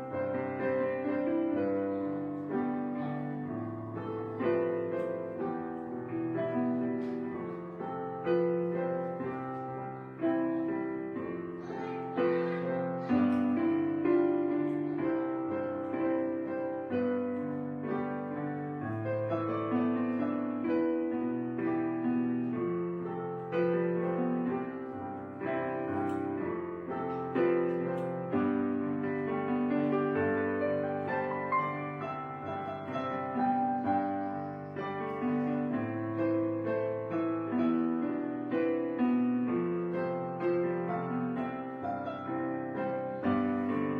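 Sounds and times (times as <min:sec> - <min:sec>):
gentle piano music: 0:00.0 - 0:43.9.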